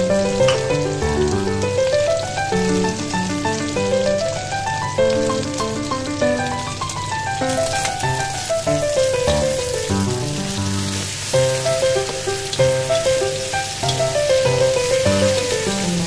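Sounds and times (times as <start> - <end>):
instrumental music: 0.0 - 16.0
meat sizzling in a wok: 0.0 - 16.0.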